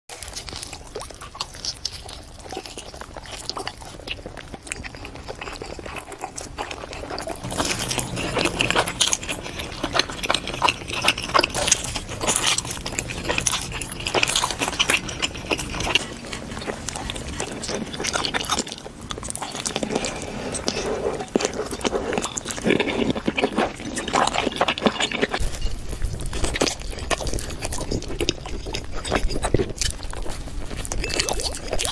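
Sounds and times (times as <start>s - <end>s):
crunching and wet chewing: 0.1s - 31.9s.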